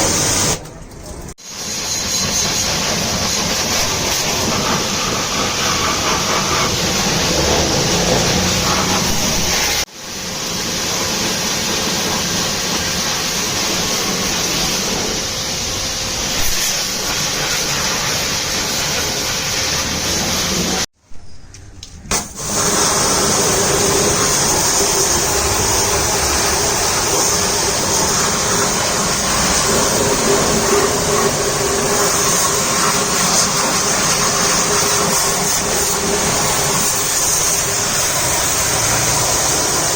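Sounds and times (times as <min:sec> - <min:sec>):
pressure washer spraying water: 0:00.0 - 0:20.9, 0:22.1 - 0:39.9.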